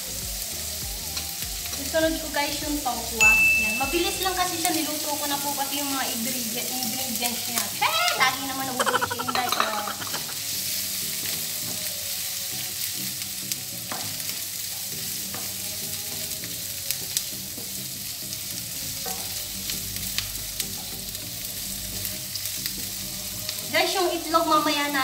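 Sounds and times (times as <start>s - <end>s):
tofu sizzling in oil: 0.0s - 25.0s.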